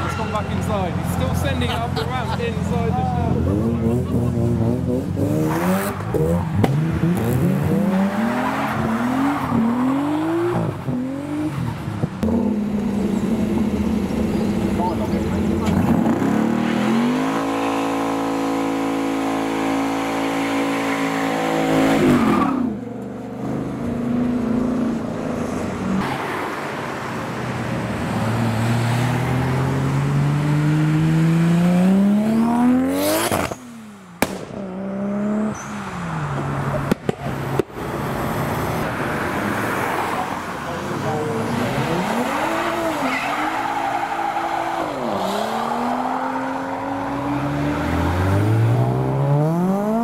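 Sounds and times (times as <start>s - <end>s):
car engine at high revs: 2.8s - 50.0s
car accelerating hard: 3.3s - 26.6s, 28.0s - 37.0s, 37.6s - 50.0s.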